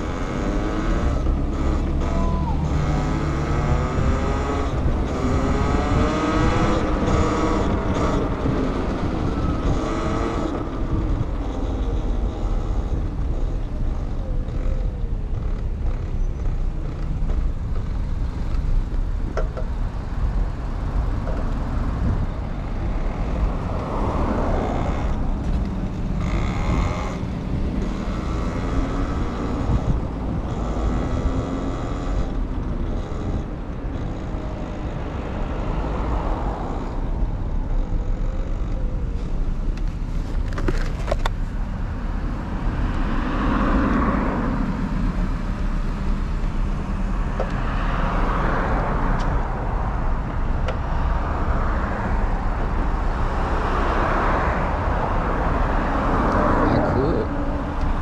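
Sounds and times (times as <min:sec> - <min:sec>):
traffic: 0:00.0 - 0:58.0
wind and tyre noise: 0:00.0 - 0:58.0.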